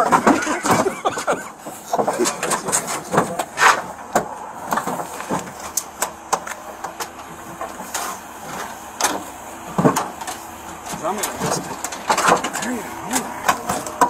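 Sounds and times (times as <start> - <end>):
handling clicks and rustling: 0.0 - 14.0.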